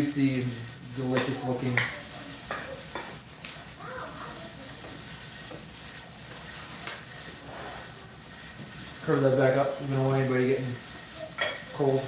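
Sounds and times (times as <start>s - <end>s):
steam hissing from pressure canner: 0.0s - 12.0s.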